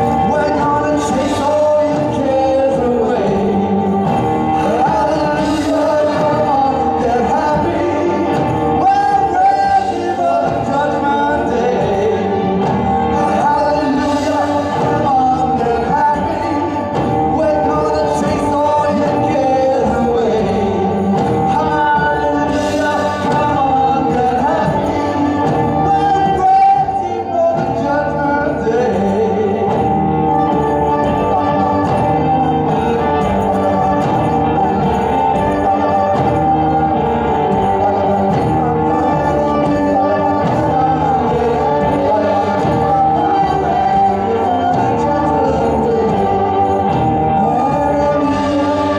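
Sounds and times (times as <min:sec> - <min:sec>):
drums: 0:00.0 - 0:48.9
male singing into microphone: 0:00.0 - 0:48.9
trumpet: 0:00.0 - 0:48.9.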